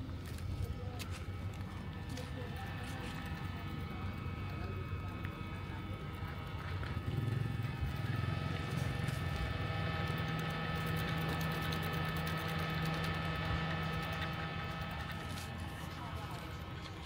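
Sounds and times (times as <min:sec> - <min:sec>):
small engine humming: 0:00.0 - 0:17.0.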